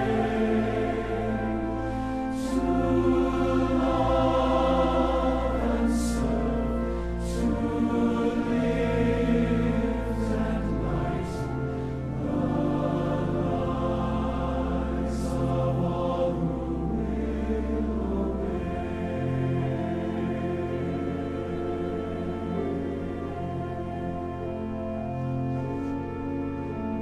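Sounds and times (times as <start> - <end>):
mixed choir singing: 0.0 - 24.8.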